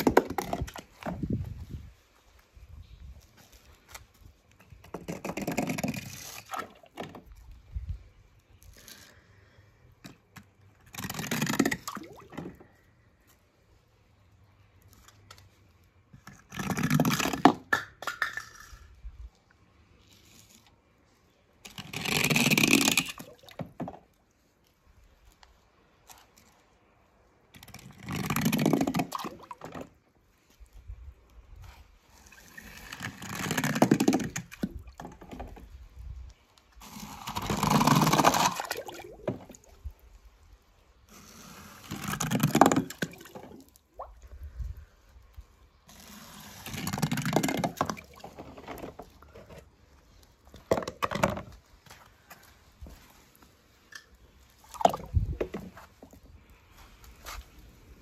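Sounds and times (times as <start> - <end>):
water splashing and sloshing: 0.0 - 8.8, 10.1 - 17.4, 19.2 - 58.0.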